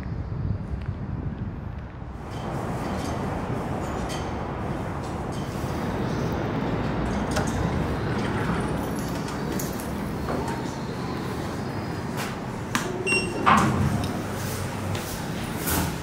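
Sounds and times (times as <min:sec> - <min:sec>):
steady background rush: 0:00.0 - 0:16.0.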